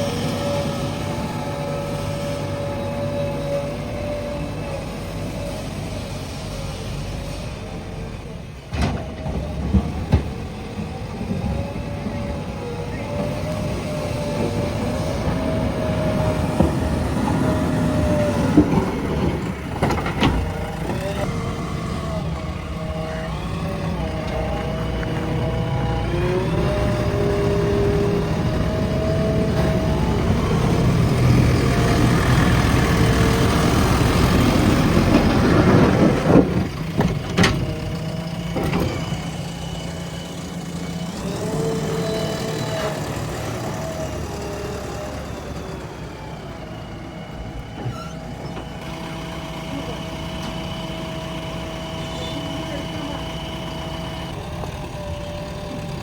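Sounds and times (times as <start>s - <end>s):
diesel engine under load: 0.0s - 56.0s
hydraulic whine: 0.0s - 56.0s.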